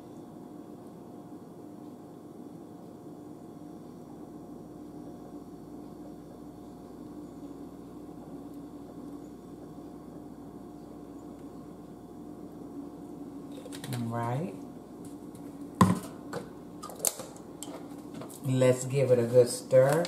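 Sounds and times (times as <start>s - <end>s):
appliance hum with faint hiss: 0.0s - 20.0s.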